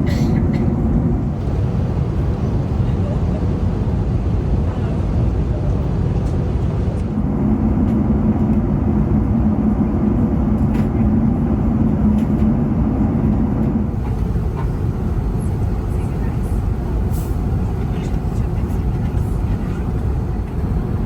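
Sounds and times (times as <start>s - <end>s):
airplane cabin rushing rumble: 0.0s - 21.0s.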